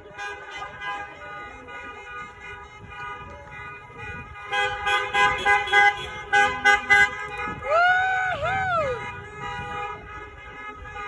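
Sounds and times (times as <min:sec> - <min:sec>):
car horns honking: 0:00.0 - 0:11.0.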